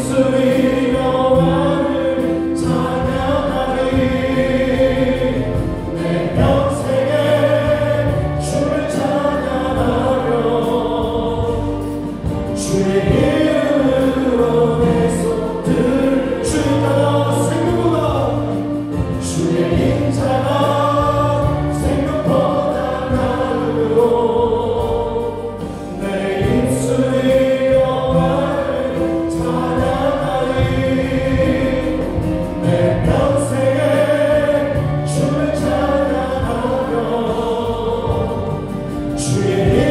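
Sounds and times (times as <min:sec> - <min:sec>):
bass guitar: 0:00.0 - 0:39.9
drums: 0:00.0 - 0:39.9
electronic keyboards: 0:00.0 - 0:39.9
voices singing together: 0:00.0 - 0:39.9.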